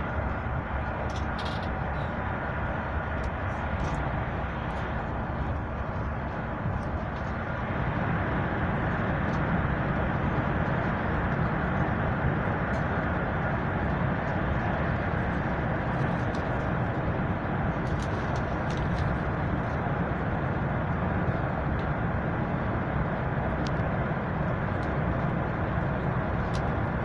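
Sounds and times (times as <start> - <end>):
train rumbling along track: 0.0 - 27.0.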